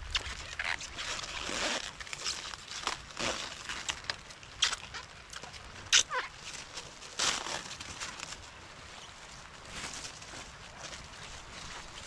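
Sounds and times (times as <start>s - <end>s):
rustling and crinkling: 0.0s - 12.0s.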